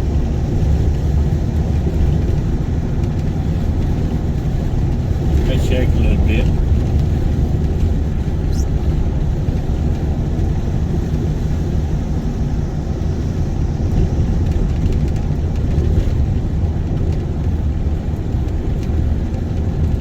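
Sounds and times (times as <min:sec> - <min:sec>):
car tyres and engine rumble: 0:00.0 - 0:20.0.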